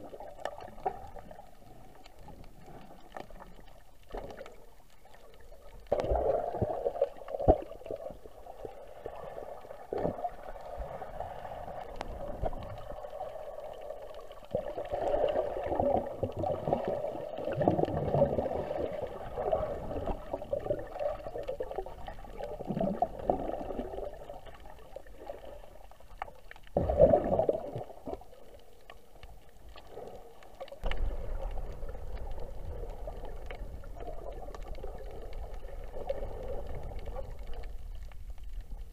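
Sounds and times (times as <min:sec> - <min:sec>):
underwater sloshing and gurgling: 0:00.0 - 0:38.9.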